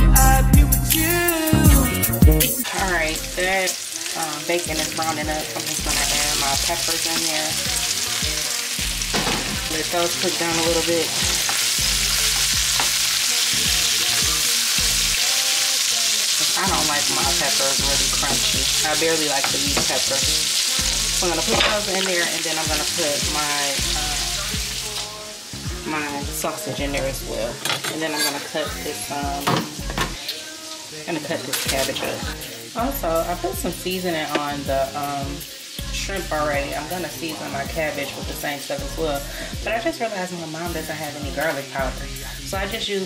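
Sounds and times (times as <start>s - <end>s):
bacon sizzling in frying pan: 2.6s - 43.0s.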